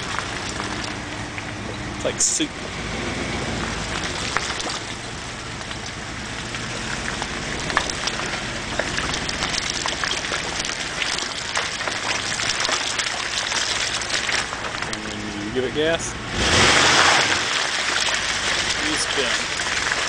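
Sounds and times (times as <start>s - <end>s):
tyres sloshing through mud: 0.0s - 20.0s.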